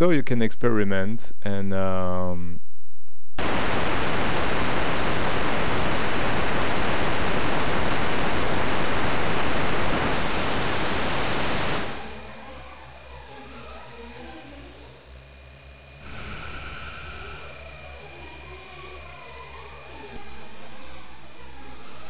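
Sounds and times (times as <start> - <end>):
synthesized static-like noise: 3.4 - 22.0.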